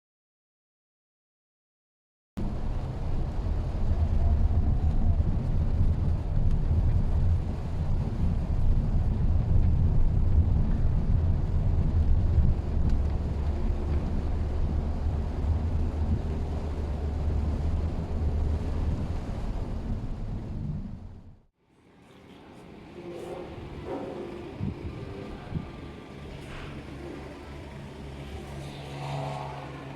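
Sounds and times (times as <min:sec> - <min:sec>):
car engine and road noise: 0:02.4 - 0:29.9.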